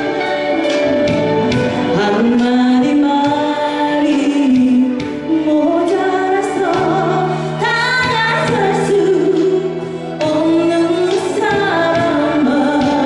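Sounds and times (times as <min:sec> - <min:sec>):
instrumental accompaniment: 0:00.0 - 0:13.0
woman singing into microphone: 0:00.0 - 0:13.0.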